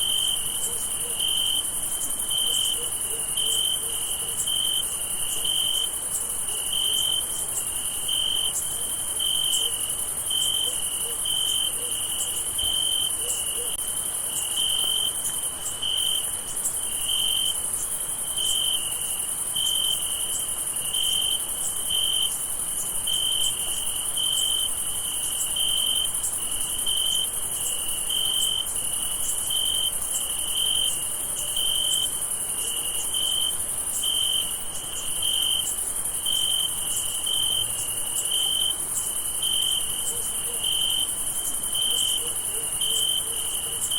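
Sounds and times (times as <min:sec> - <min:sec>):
cricket chirping in pulses: 0:00.0 - 0:43.9.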